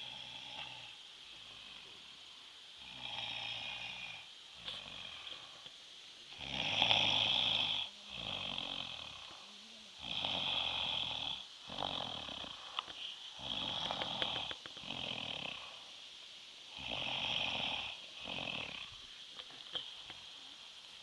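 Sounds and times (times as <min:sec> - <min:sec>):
person snoring: 0:00.0 - 0:02.2, 0:02.8 - 0:05.7, 0:06.3 - 0:16.0, 0:16.7 - 0:19.0.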